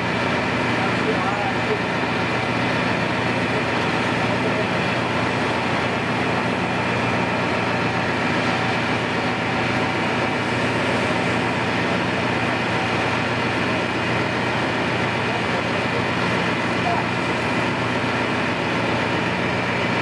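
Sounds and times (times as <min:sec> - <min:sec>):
diesel machinery engine drone: 0:00.0 - 0:20.0.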